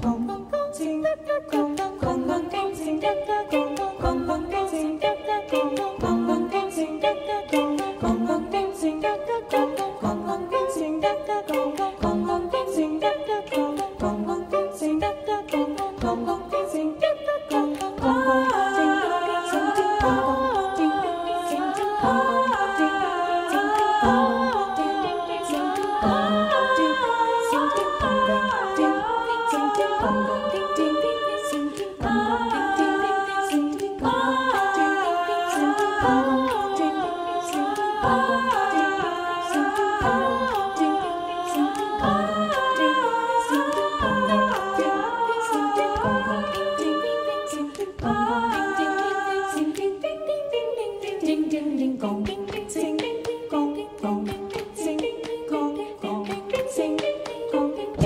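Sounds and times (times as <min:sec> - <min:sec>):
choir singing a cappella: 0:00.0 - 0:58.0
sharp percussive clicks: 0:00.8 - 0:50.0.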